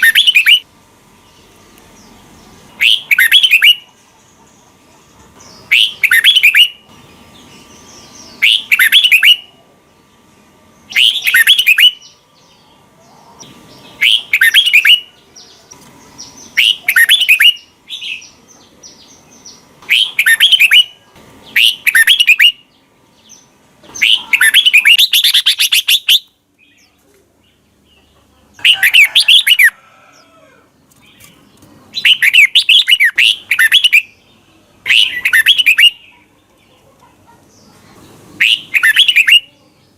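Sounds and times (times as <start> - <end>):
bird singing warbling phrases: 0.0 - 4.8, 5.4 - 29.8, 31.0 - 39.9.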